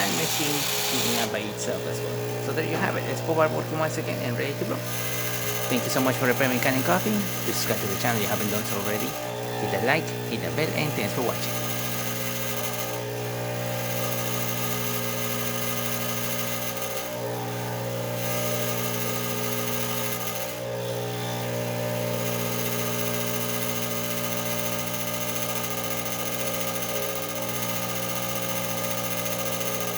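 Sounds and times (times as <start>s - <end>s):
espresso machine pump humming: 0.0s - 29.9s.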